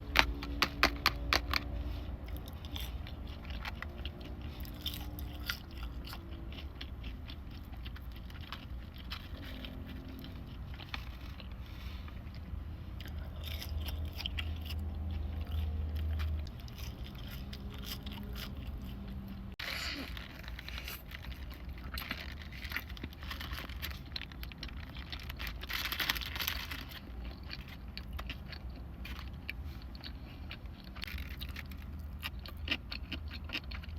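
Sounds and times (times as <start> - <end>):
crunchy bites and chewing: 0.0 - 33.9.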